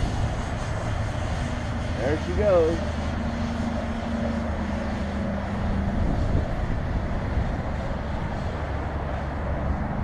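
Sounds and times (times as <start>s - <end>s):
drone propellers humming: 0.0s - 10.0s
wind rumbling on microphone: 0.0s - 10.0s.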